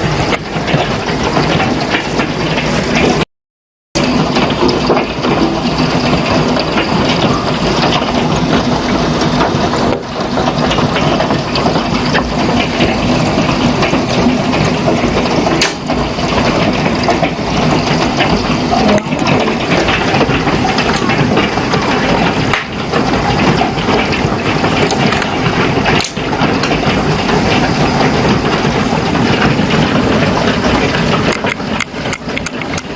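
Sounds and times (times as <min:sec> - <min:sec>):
hail and heavy rain: 0:00.0 - 0:03.2, 0:04.0 - 0:32.9.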